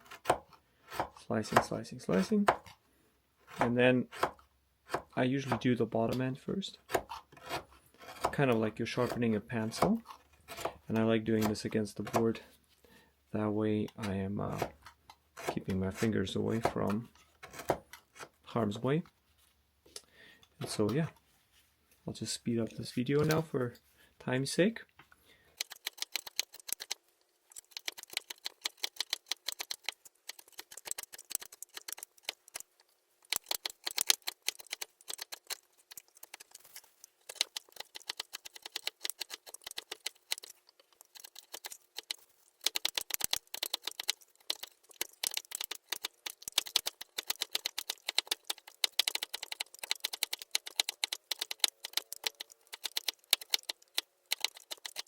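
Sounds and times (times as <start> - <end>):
knife carving wood: 0.0 - 2.8, 3.4 - 12.5, 13.9 - 18.5, 25.4 - 55.0.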